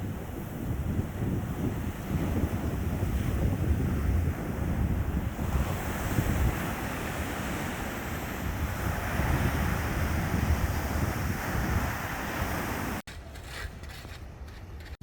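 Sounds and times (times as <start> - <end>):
sea surf breaking: 0.0 - 13.0
wind buffeting microphone: 0.0 - 15.0.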